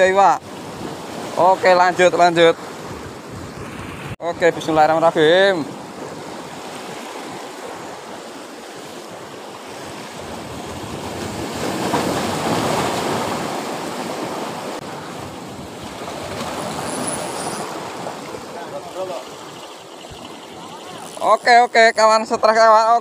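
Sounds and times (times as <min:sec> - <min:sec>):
sea waves washing against breakwater: 0:00.0 - 0:23.0.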